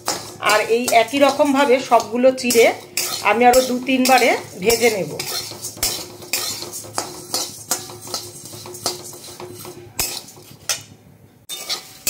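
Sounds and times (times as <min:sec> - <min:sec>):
frying rice flakes clattering: 0:00.0 - 0:12.0
metal spatula scraping a pan: 0:00.0 - 0:12.0.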